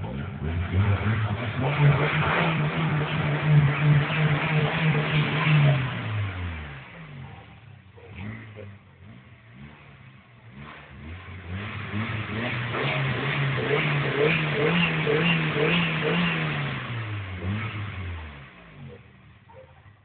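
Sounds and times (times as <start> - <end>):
car engine revving: 0.0 - 19.5.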